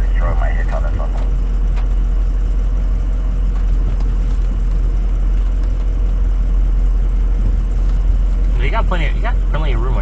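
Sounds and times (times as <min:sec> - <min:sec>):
truck engine low rumble: 0:00.0 - 0:10.0.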